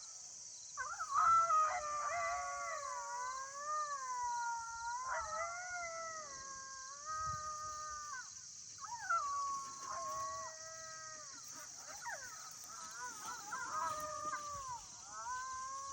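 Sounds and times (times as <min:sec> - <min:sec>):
wavering animal call wails: 0:00.8 - 0:15.9.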